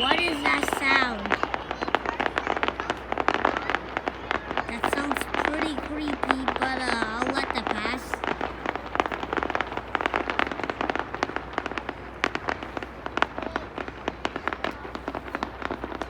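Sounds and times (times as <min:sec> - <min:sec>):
fireworks crackling: 0:00.0 - 0:16.0.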